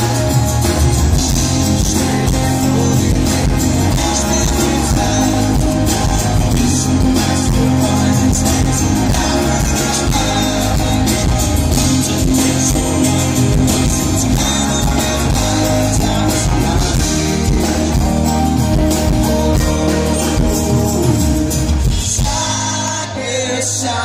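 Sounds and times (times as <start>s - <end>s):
acoustic guitar: 0.0s - 24.0s
electric bass: 0.0s - 24.0s
electric guitar: 0.0s - 24.0s.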